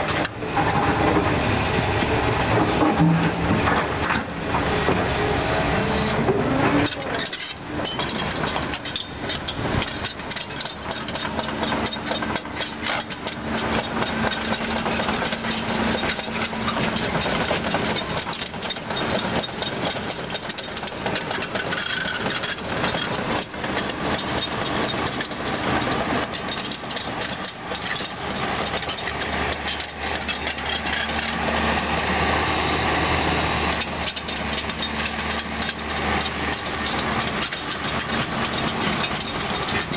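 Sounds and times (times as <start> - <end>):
diesel engine running: 0.0 - 39.9
steel tracks clanking over stones: 0.0 - 39.9.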